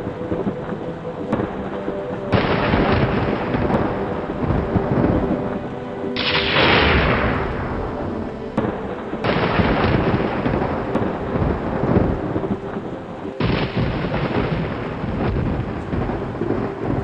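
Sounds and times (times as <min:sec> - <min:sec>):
rolling thunder: 0:00.0 - 0:17.0
soft sustained music tones: 0:00.0 - 0:17.0
steady rain: 0:00.0 - 0:17.0.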